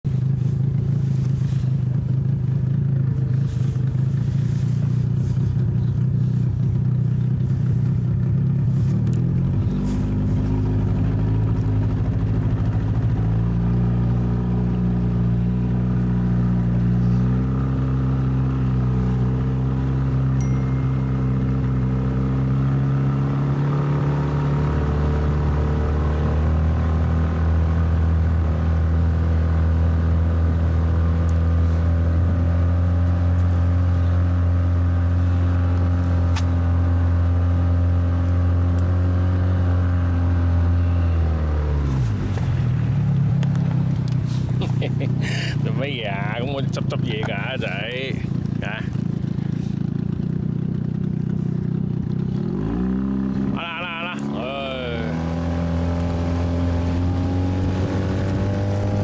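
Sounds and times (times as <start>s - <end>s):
engine humming: 0.0s - 59.0s.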